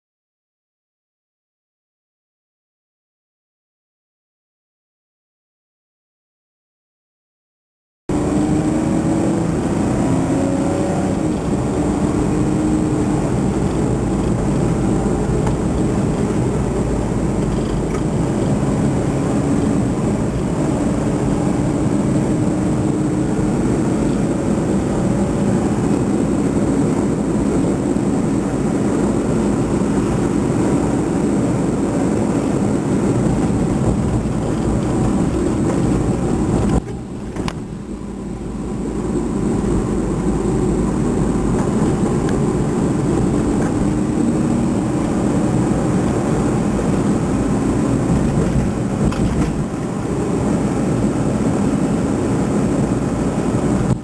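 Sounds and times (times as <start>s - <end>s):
vehicle engine rumbling: 8.1s - 54.0s.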